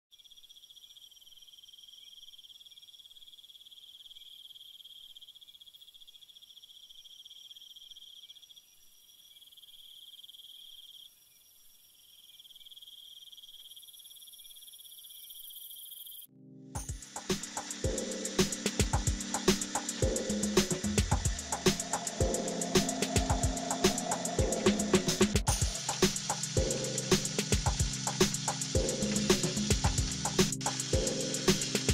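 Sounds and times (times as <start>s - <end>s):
insects chirring: 0.2s - 31.9s.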